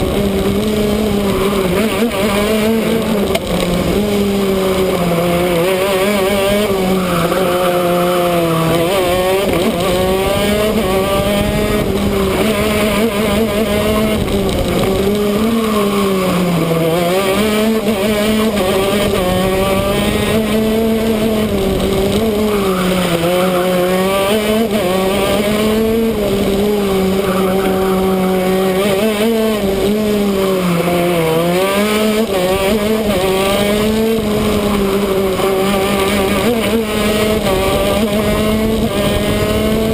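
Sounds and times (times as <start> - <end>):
high-revving kart engine: 0.0 - 39.9.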